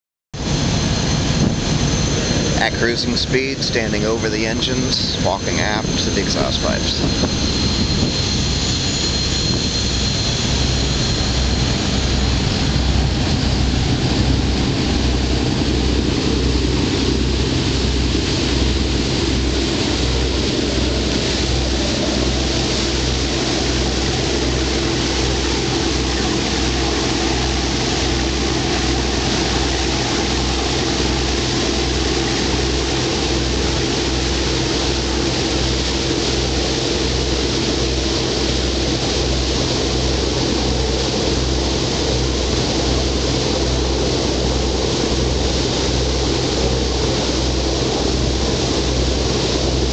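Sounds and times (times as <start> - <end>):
high whine: 0.4 - 49.9
marine diesel engines throbbing: 0.4 - 49.9
propeller wake churning: 0.4 - 49.9.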